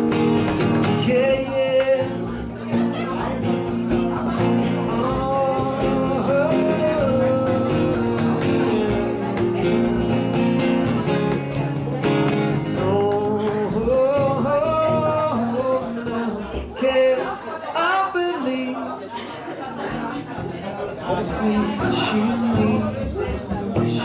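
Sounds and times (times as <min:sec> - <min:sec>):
guitar accompaniment: 0:00.0 - 0:18.9, 0:19.7 - 0:24.0
wordless sung melody: 0:00.0 - 0:24.0.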